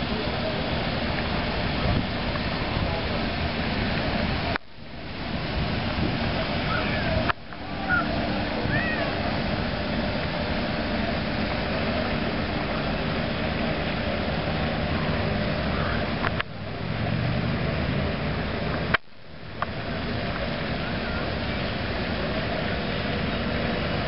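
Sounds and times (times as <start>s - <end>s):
model speedboat motor: 0.0s - 24.0s.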